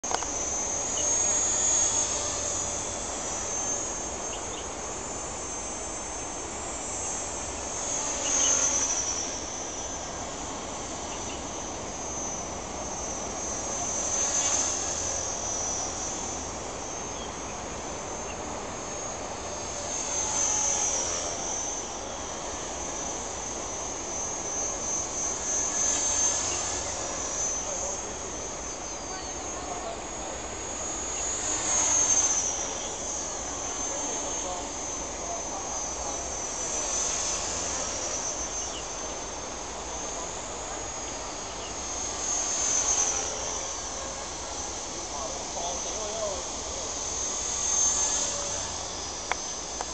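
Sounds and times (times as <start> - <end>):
model helicopter whine: 0.0 - 49.9.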